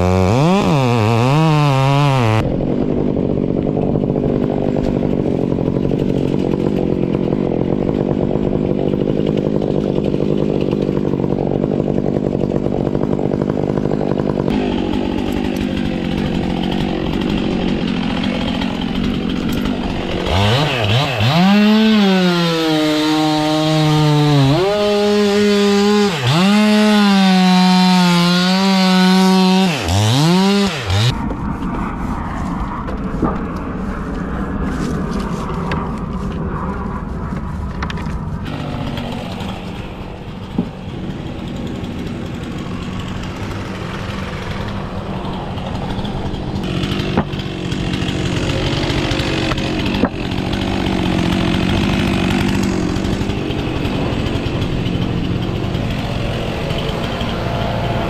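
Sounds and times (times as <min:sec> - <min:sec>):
chainsaw running and revving: 0:00.0 - 0:31.2, 0:38.4 - 0:58.0.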